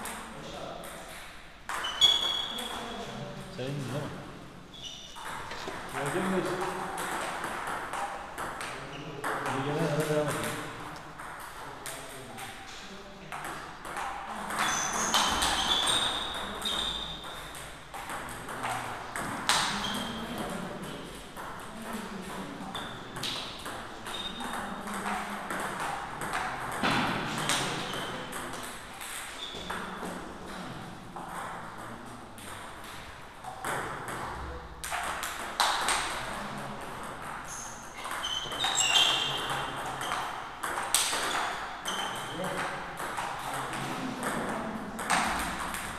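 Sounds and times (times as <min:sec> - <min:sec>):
ball bouncing on table: 0:00.0 - 0:03.0, 0:05.1 - 0:12.6, 0:13.3 - 0:45.9.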